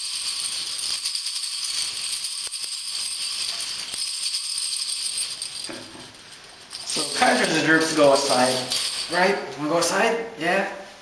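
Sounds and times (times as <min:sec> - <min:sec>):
small bells jingling by hand: 0:00.0 - 0:09.5.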